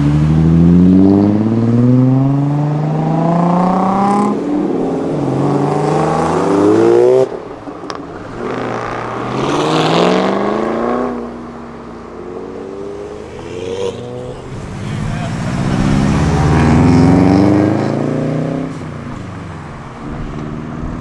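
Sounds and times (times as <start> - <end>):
car engine accelerating hard: 0.0 - 21.0
second car accelerating: 0.0 - 21.0.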